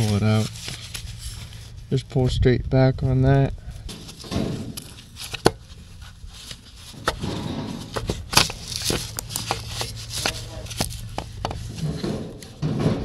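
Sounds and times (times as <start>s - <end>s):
scraping and rustling: 0.0s - 2.3s, 3.7s - 13.0s.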